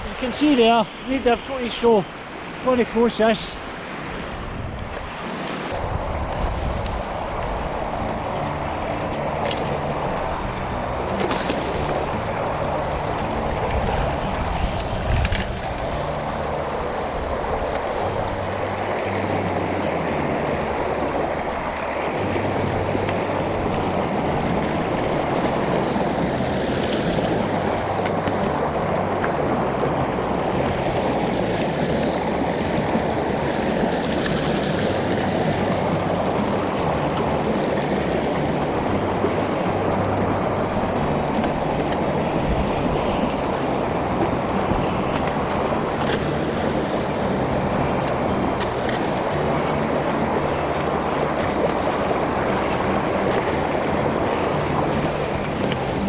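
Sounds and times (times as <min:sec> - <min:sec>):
river rushing over stones: 0:00.0 - 0:56.0
wind buffeting microphone: 0:00.0 - 0:56.0.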